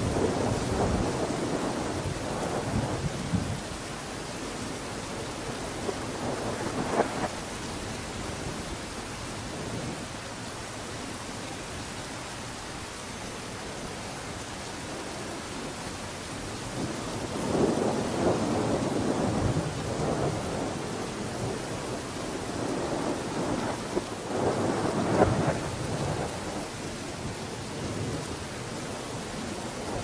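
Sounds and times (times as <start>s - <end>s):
steady hissing noise: 0.0s - 30.0s.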